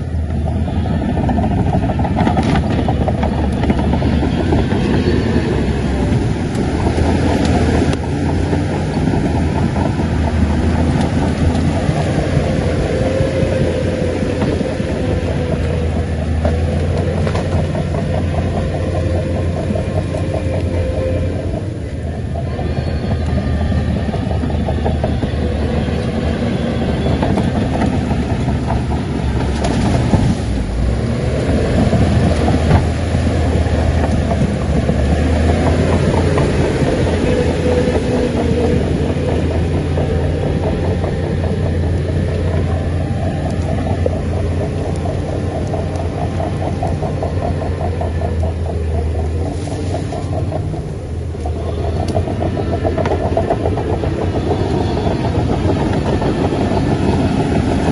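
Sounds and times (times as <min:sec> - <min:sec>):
diesel engine running: 0:00.0 - 0:57.9
steel tracks clattering: 0:00.0 - 0:57.9.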